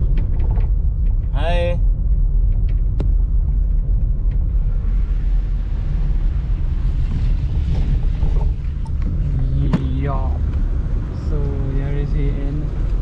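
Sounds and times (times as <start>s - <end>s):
road and engine rumble: 0.0s - 13.0s
wind and tyre hiss: 0.0s - 13.0s.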